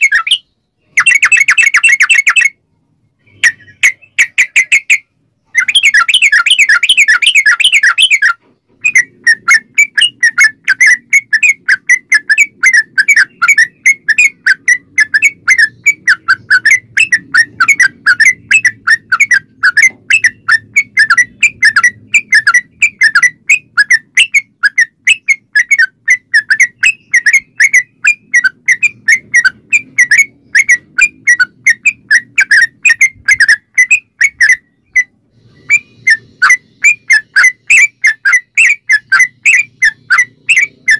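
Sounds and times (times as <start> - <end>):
bulbul singing rapid whistled song: 0.0 - 2.6, 3.2 - 40.9.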